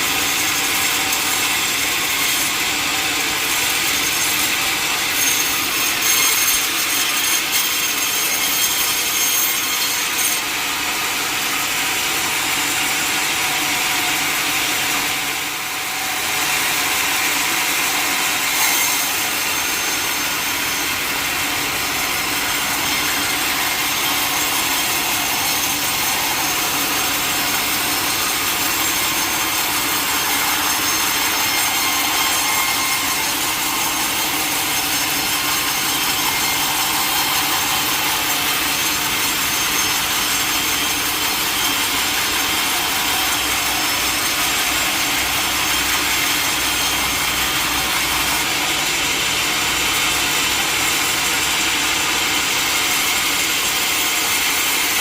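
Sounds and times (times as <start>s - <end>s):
saw cutting through log: 0.0s - 55.0s.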